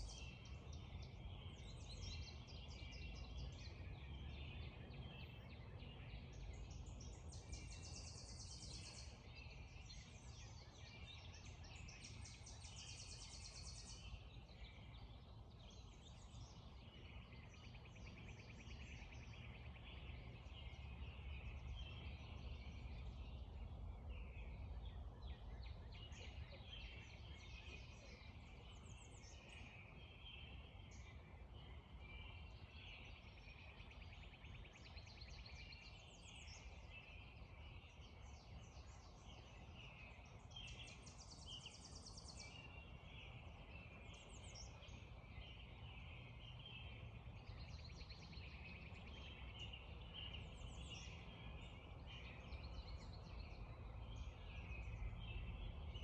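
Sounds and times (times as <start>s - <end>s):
songbirds calling and trilling: 0.0s - 56.0s.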